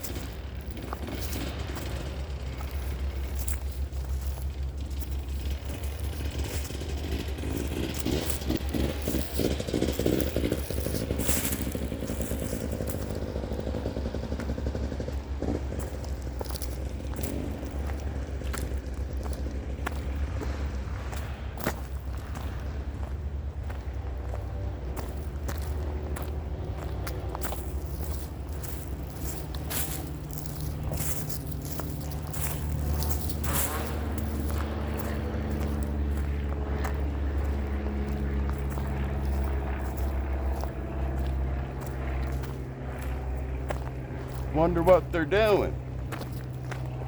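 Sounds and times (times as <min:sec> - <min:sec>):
dirt bike engine running: 0:00.0 - 0:47.0
footsteps on a trail: 0:00.0 - 0:47.0.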